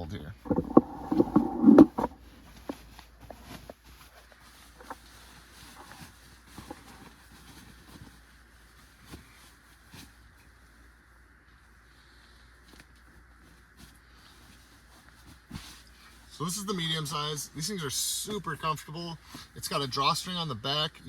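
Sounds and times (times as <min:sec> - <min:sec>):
faint rustling: 0:00.3 - 0:20.5.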